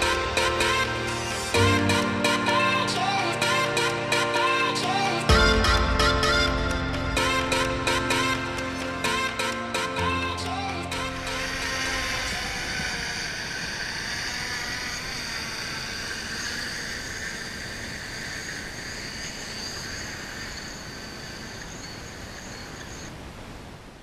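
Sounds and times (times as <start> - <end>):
drone propellers whining: 0.0 - 23.2
steady hiss: 0.0 - 24.0.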